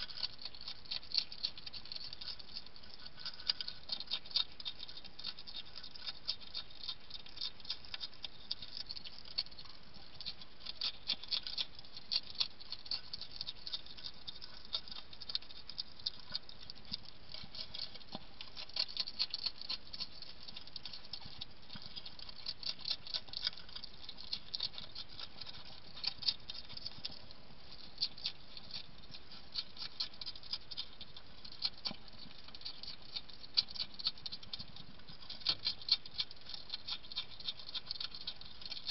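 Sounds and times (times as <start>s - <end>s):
hedgehog crunching dry food: 0.0s - 38.9s.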